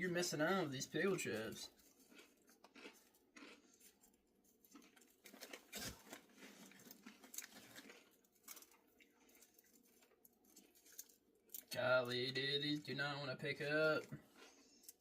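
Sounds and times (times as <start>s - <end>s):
potato chips crinkling: 0.6s - 12.9s.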